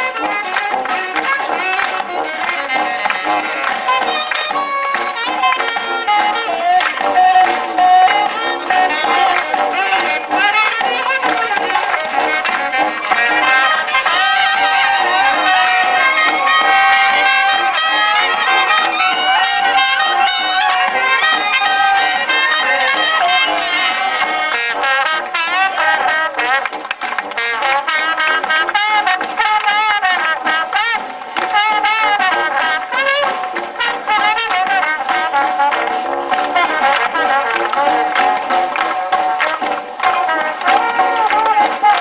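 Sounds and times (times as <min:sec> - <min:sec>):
live brass band music: 0:00.0 - 0:42.0.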